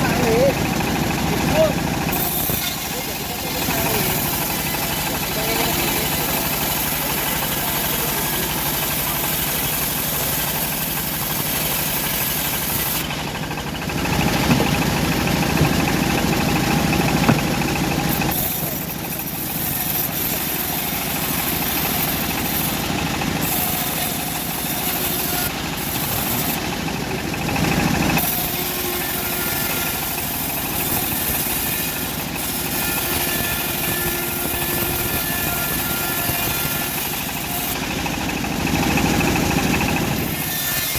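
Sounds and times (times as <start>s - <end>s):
bandsaw mill sawing wood: 0.0s - 40.9s.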